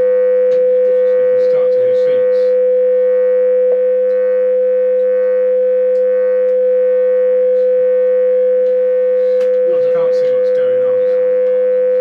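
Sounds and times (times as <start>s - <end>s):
electronic oscillator tones: 0.0s - 12.0s.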